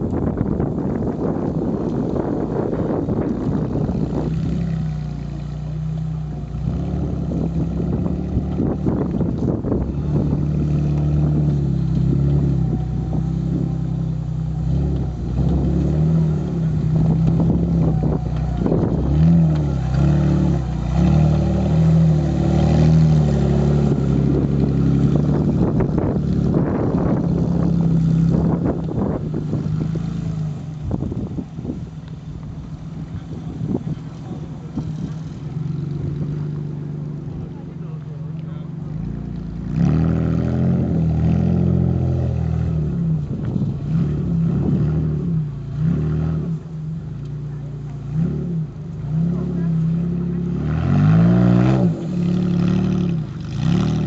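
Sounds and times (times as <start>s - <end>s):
off-road buggy engine under load: 0.0s - 54.0s.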